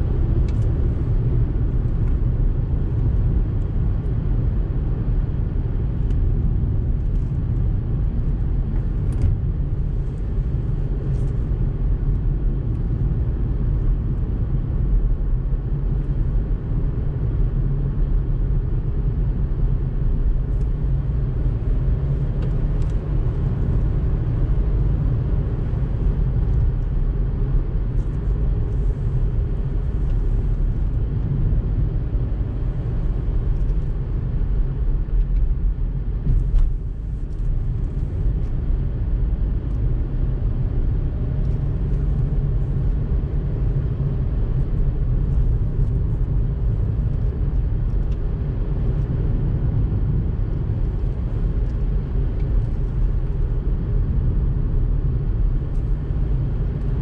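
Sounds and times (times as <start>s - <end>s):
car engine rumble: 0.0s - 57.0s.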